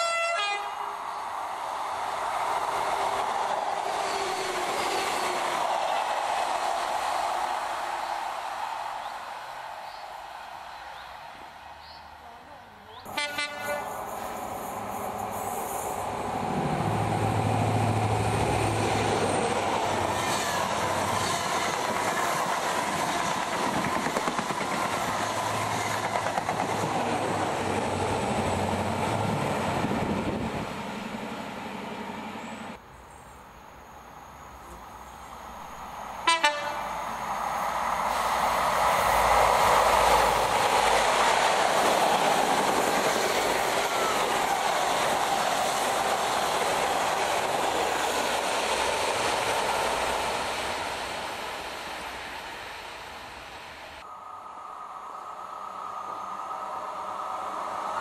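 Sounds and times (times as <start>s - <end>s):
diesel trains passing: 0.0s - 58.0s.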